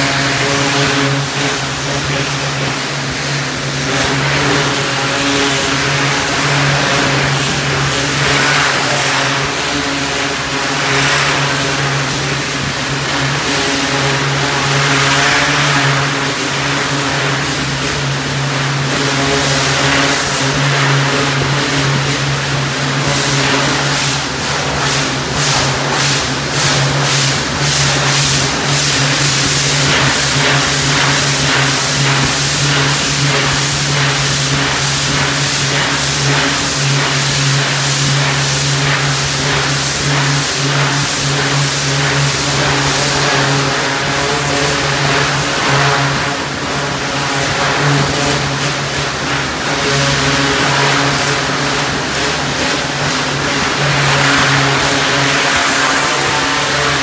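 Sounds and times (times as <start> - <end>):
pressure washer engine hum: 0.0 - 57.0
spray hissing on metal: 0.0 - 57.0.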